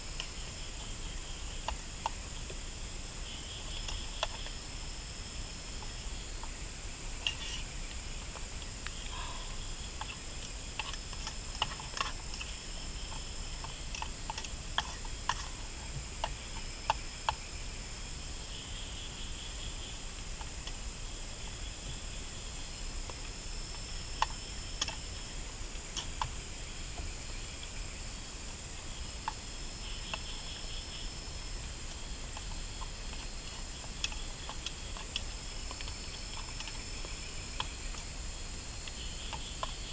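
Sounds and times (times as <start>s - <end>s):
insect calls: 0.0s - 39.9s
insects chirring: 0.0s - 39.9s.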